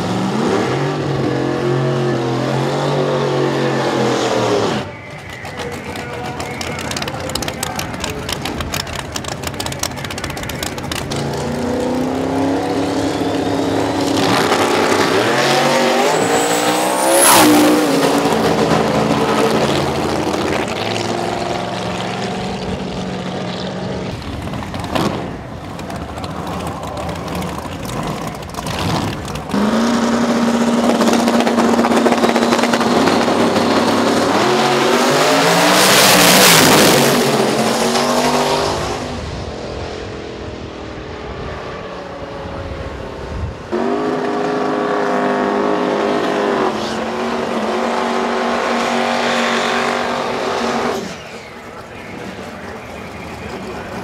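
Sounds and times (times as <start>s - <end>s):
drag race cars at full throttle: 0.0s - 54.0s.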